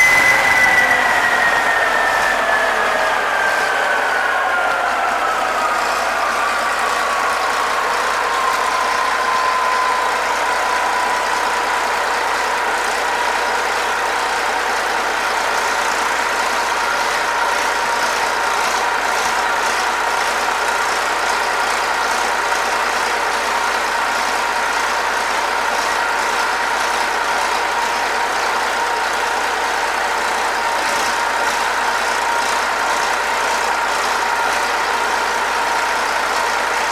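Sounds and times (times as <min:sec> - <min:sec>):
high engine whine: 0:00.0 - 0:36.9
marine diesel engine running: 0:00.0 - 0:36.9.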